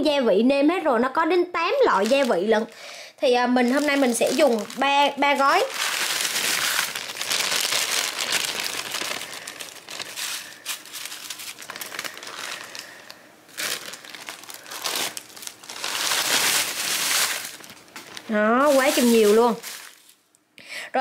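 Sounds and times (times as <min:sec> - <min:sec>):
plastic packets crinkling: 0:01.8 - 0:02.9, 0:03.6 - 0:20.3
rice paper strips rustling: 0:01.9 - 0:02.7, 0:03.6 - 0:20.2.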